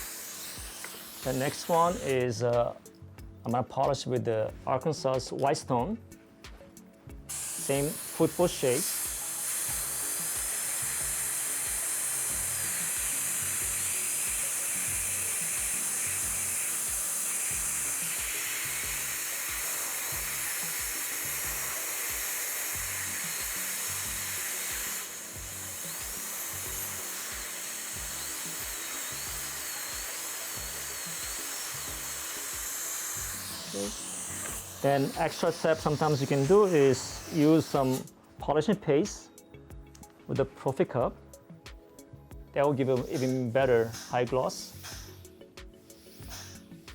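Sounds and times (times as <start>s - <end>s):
dental handpiece whining: 0.0s - 2.8s, 7.1s - 38.2s, 42.0s - 46.9s
music beat: 0.0s - 46.9s.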